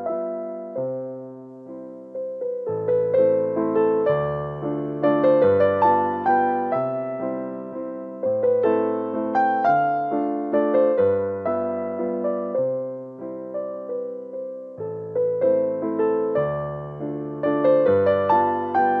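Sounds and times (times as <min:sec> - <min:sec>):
slow piano piece: 0:00.0 - 0:19.0.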